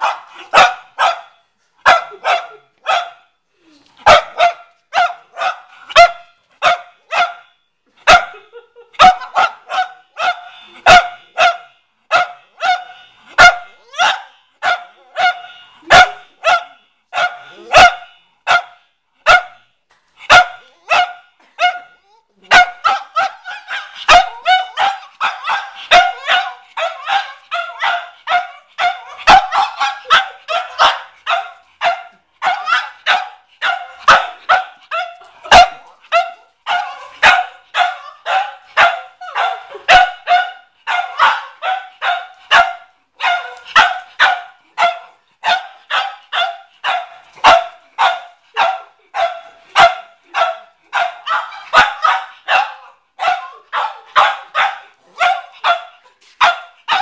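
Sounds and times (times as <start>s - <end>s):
dog barking: 0.0s - 3.3s, 4.0s - 19.7s, 20.3s - 57.0s.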